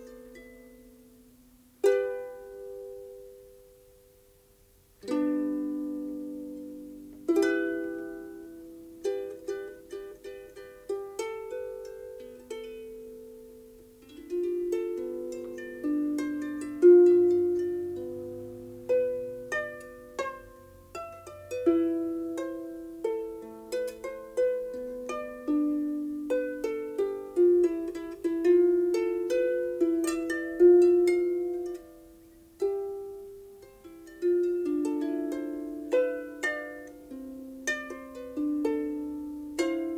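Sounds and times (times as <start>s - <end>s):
harp plucked melody: 0.0s - 39.9s.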